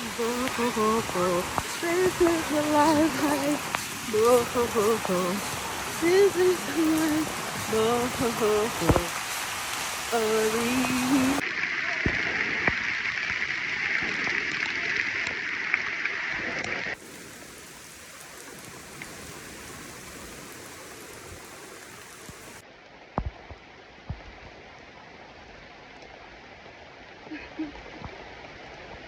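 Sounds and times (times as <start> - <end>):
rain on foliage: 0.0 - 29.0
stream rushing: 0.0 - 29.0.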